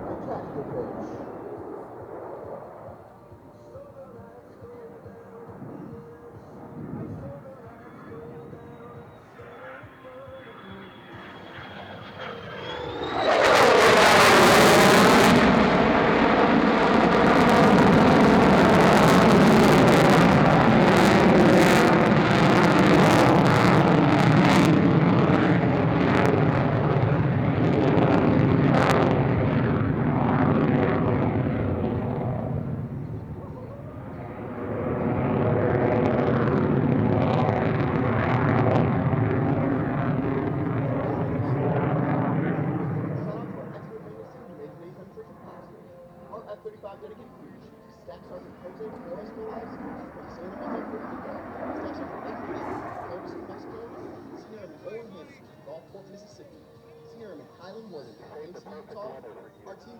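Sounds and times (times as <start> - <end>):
jet engine roaring past: 0.0 - 59.9.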